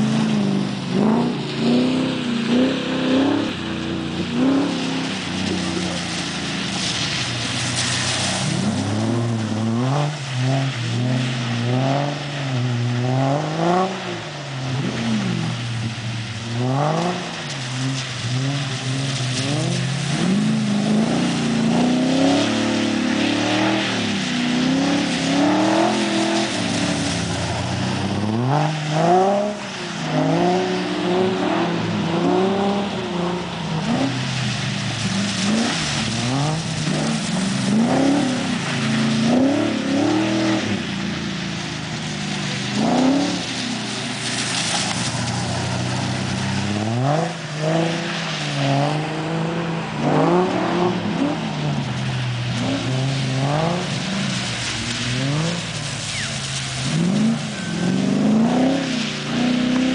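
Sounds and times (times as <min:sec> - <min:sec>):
car engine revving: 0:00.0 - 0:59.9
tyres hissing on wet surface: 0:00.0 - 0:59.9.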